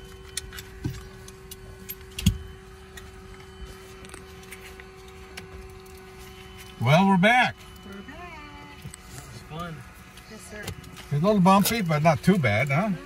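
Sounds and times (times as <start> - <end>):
piston aircraft engines humming: 0.0 - 13.0.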